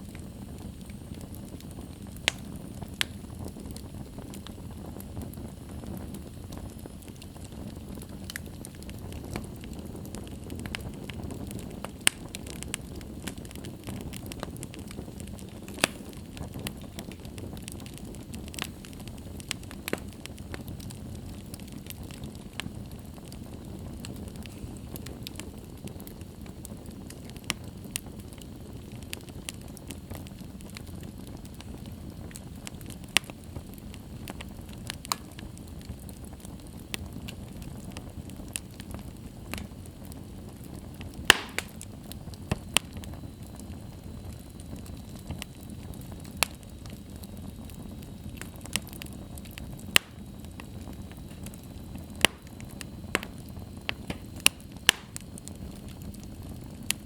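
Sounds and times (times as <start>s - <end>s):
fire crackling and popping: 0.0s - 57.0s
fire roaring in fireplace: 0.0s - 57.0s.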